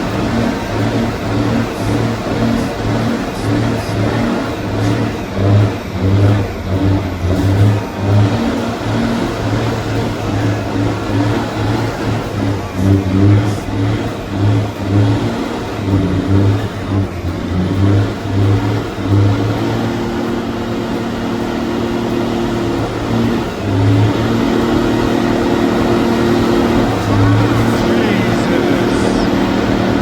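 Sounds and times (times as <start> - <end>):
truck engine revving hard: 0.0 - 30.0.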